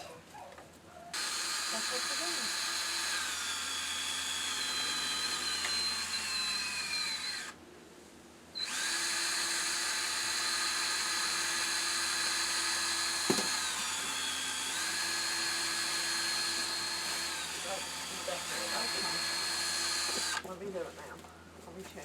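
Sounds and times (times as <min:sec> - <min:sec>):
electric drill motor whining: 0:01.1 - 0:07.6, 0:08.6 - 0:20.5.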